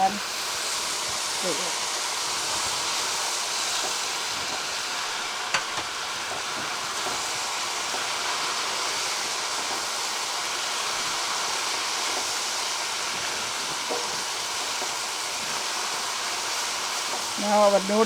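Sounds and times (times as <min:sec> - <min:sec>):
stir-fry sizzling in a pan: 0:00.0 - 0:18.0.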